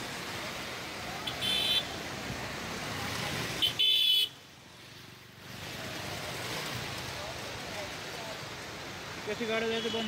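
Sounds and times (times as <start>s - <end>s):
traffic on a wet road: 0.0s - 10.0s.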